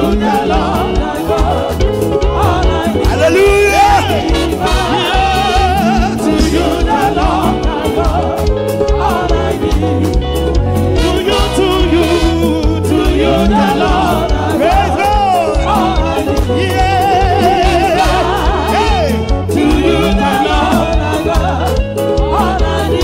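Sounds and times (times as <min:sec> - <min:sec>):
gospel band playing: 0:00.0 - 0:23.0.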